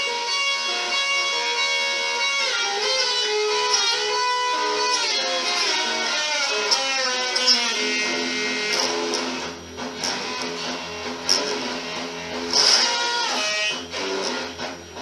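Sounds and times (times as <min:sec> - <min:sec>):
electric guitar rock line: 0:00.0 - 0:15.0.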